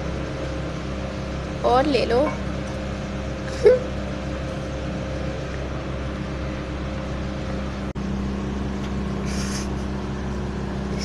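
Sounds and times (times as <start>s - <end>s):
low motor hum with held tones: 0.0s - 11.0s.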